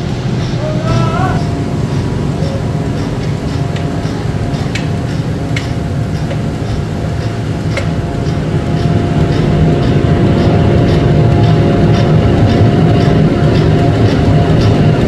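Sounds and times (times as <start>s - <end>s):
heavy machinery rumble: 0.0s - 15.0s.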